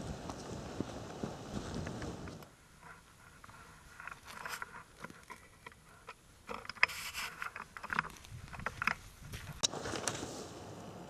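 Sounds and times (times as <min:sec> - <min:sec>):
rustling of brush and dry leaves: 0:00.0 - 0:11.0.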